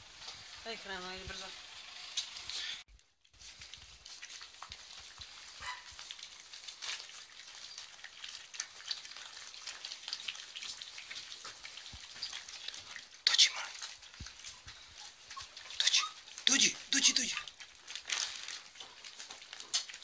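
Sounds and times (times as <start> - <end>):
puppies crunching dry kibble: 0.0 - 20.0.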